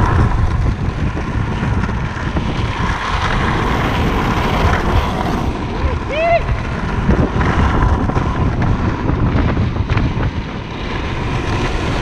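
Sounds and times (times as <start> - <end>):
board wheels rolling on asphalt: 0.0 - 12.0
wind buffeting microphone: 0.0 - 12.0.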